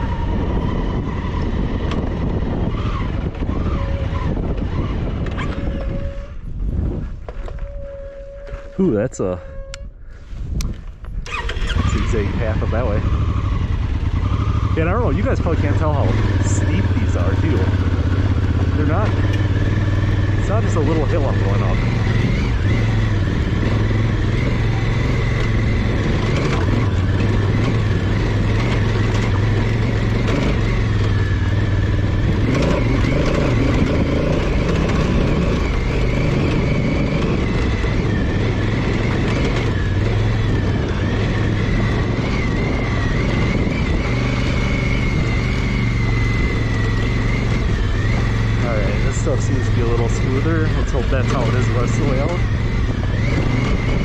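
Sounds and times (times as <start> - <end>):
motorcycle engine under load: 0.0 - 9.8, 10.6 - 54.0
continuous rough noise: 0.0 - 11.2, 11.8 - 54.0.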